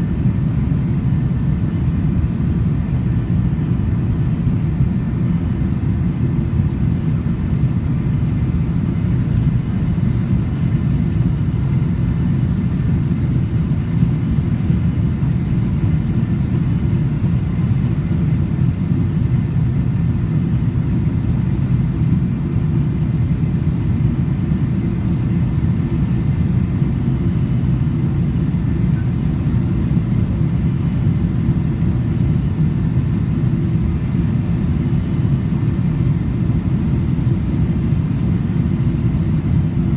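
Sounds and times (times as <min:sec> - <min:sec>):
jet aircraft rumble: 0:00.0 - 0:39.9.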